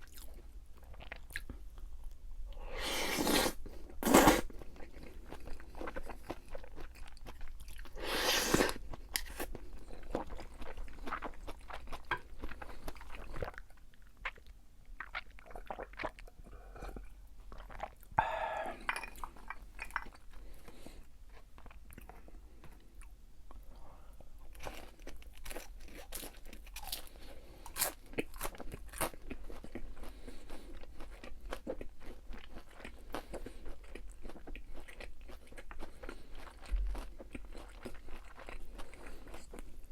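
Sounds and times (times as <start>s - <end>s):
chewing crispy fried food: 0.0s - 2.2s, 3.2s - 18.5s, 19.2s - 39.9s.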